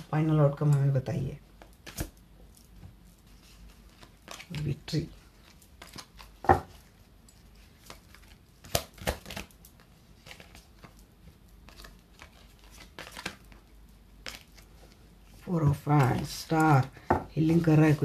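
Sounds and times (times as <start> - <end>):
cards sliding and rustling: 3.2 - 18.0.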